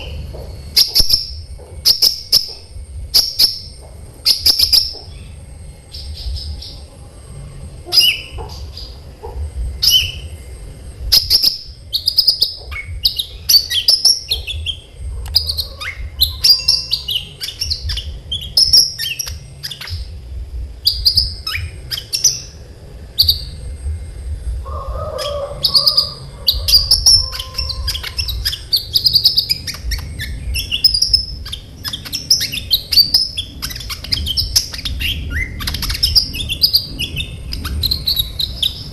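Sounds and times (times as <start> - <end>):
sunbird singing fast chirps: 0.0 - 9.0, 9.7 - 20.2, 20.8 - 23.8, 25.1 - 38.9
steady low hum: 0.0 - 38.9.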